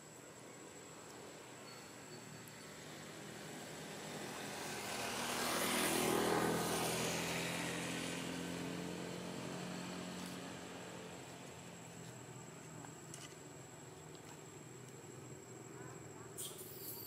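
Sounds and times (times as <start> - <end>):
passing engine hiss and hum: 0.0 - 17.0.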